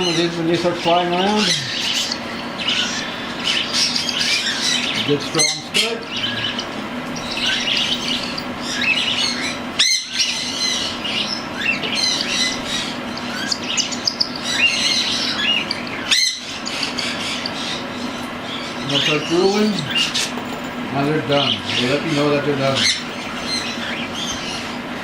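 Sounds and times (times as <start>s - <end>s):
chicks chirping: 0.0s - 24.9s
steady low hum: 0.0s - 25.0s.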